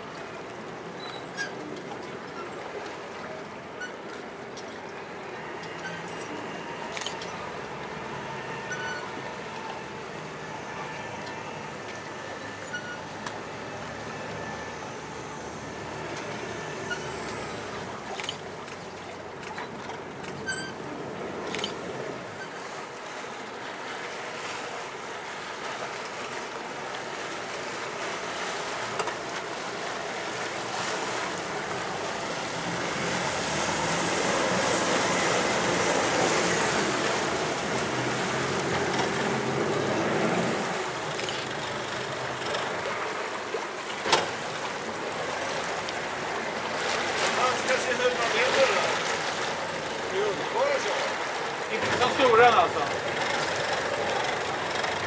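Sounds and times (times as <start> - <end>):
boat engine: 0.0 - 55.0
boat wash rushing on water: 0.0 - 55.0.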